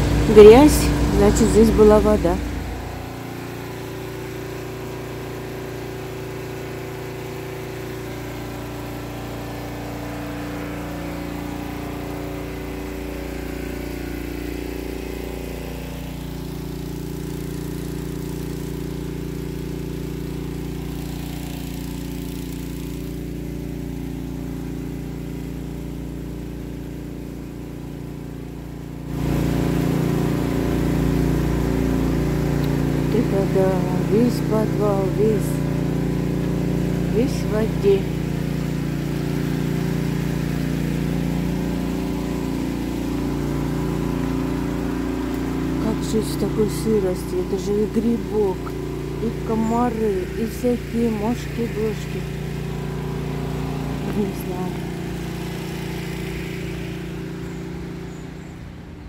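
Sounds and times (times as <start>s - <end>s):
water pump motor running: 0.0s - 59.0s.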